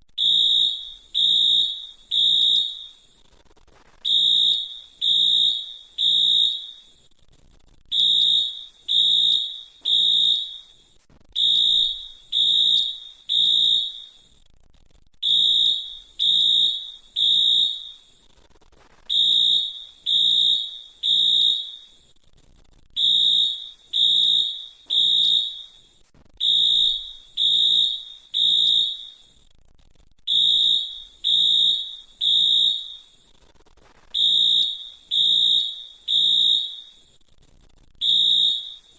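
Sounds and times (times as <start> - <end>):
fire alarm beeps: 0.2 - 3.1, 4.1 - 7.0, 7.9 - 14.2, 15.2 - 18.2, 19.1 - 22.1, 23.0 - 29.4, 30.3 - 33.2, 34.2 - 37.2, 38.0 - 38.9.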